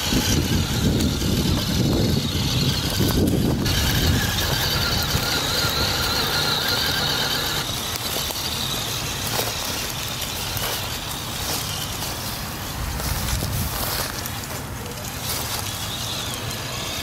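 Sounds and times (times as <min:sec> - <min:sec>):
toy car electric motor whine: 0:00.0 - 0:17.0
tyres crunching dry leaves: 0:00.0 - 0:17.0.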